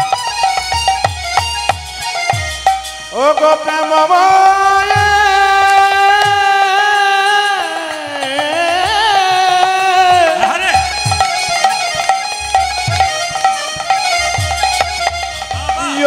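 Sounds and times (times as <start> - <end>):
drum strokes: 0.0 - 16.0
sustained accompaniment: 0.0 - 16.0.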